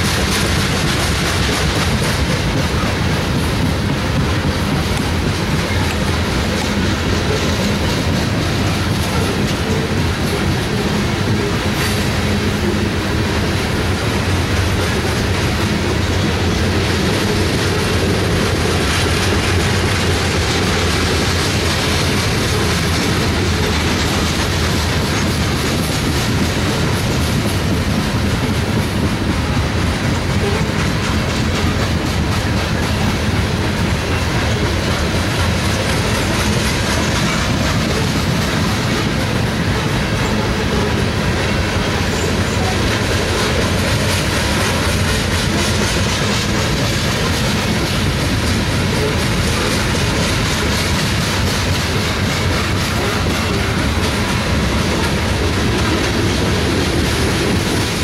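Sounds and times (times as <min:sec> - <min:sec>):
freight train rumbling past: 0:00.0 - 0:58.0
wheels clicking over rails: 0:00.0 - 0:58.0.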